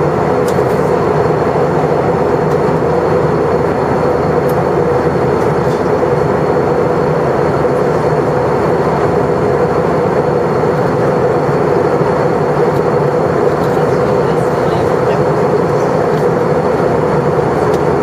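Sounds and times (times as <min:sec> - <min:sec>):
jet engine rush in cabin: 0:00.0 - 0:18.0.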